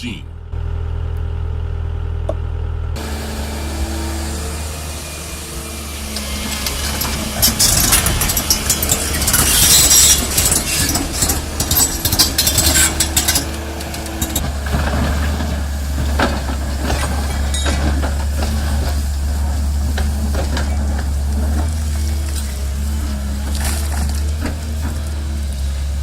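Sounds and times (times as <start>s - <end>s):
diesel engine running: 0.0s - 26.0s
loud scraping and clattering: 3.2s - 26.0s.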